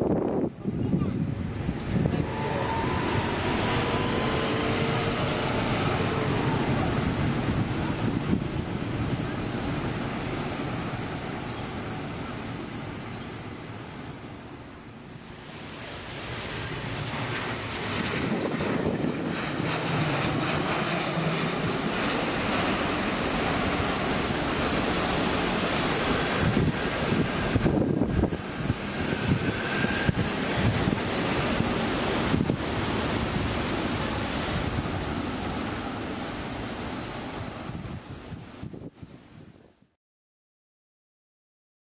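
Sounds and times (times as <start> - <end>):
airliner jet engine departing: 0.0 - 38.5
airliner landing with engine whine: 0.0 - 39.0
wind buffeting microphone: 0.0 - 39.8.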